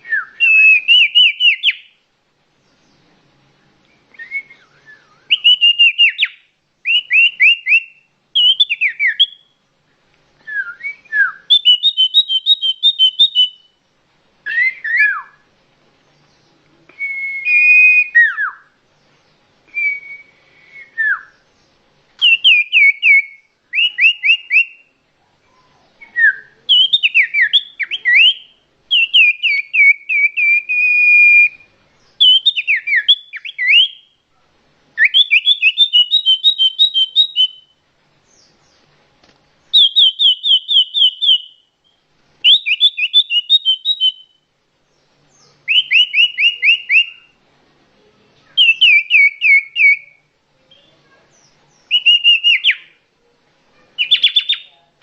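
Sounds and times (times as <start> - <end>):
bird whistled song: 0.0 - 2.0, 3.9 - 9.6, 10.4 - 13.8, 14.4 - 15.4, 16.2 - 21.6, 22.2 - 24.9, 25.5 - 34.2, 35.0 - 38.8, 39.6 - 47.4, 48.5 - 53.0, 54.0 - 54.8.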